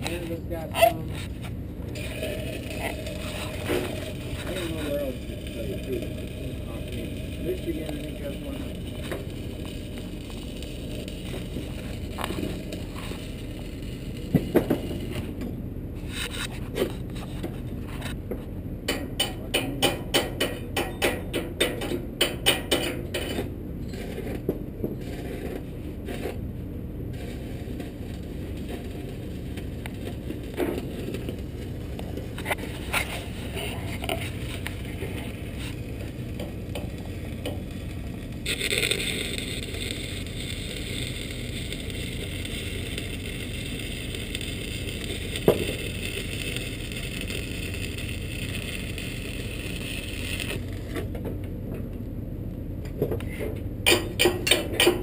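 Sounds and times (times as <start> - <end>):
welding arc crackling hiss: 0.0 - 18.1, 18.9 - 51.1, 53.9 - 55.0.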